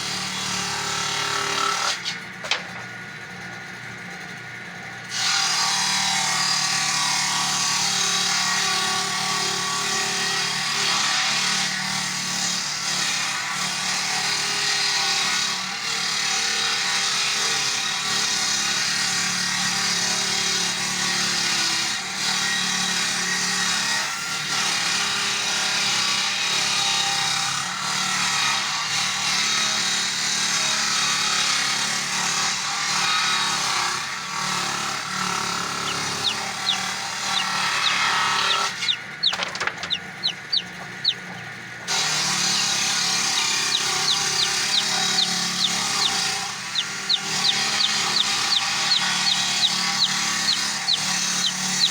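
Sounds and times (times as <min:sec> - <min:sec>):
chainsaw cutting wood: 0:00.0 - 0:02.8, 0:05.1 - 0:51.9.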